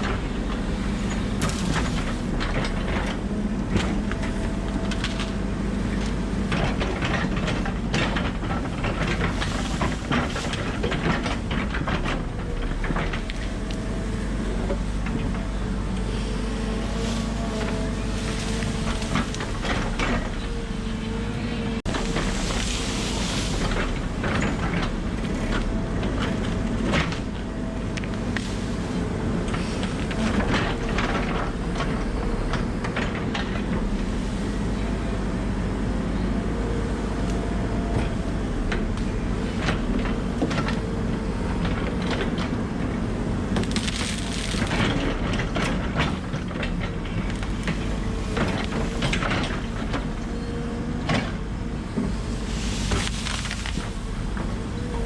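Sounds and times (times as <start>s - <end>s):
excavator diesel engine running: 0.0s - 55.0s
trees and branches cracking: 0.0s - 55.0s.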